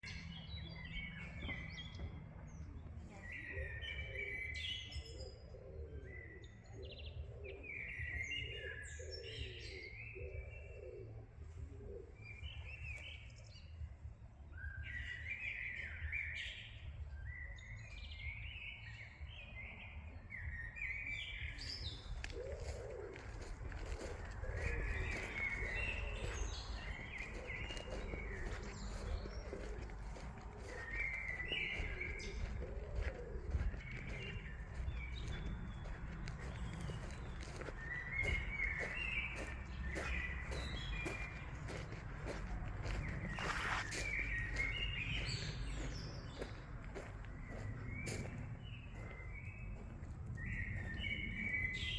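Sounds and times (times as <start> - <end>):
songbirds chirping: 0.0 - 51.9
low bird calls: 3.1 - 13.8, 20.4 - 51.9.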